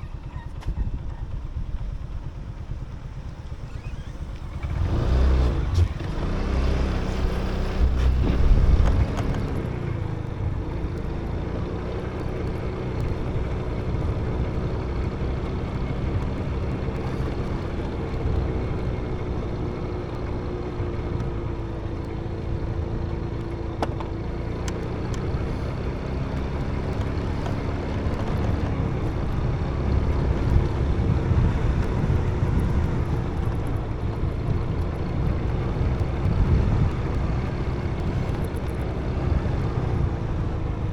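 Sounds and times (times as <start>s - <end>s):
motorbike engine running: 0.0s - 40.9s.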